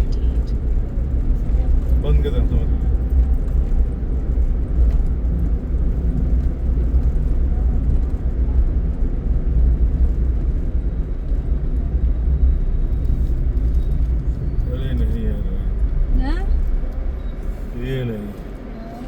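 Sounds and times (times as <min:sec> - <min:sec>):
car driving on highway: 0:00.0 - 0:19.0.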